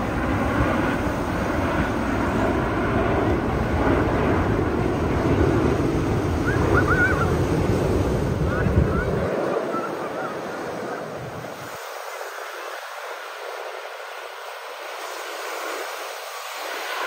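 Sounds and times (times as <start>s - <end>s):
jet engines rumbling overhead: 0.0s - 17.0s.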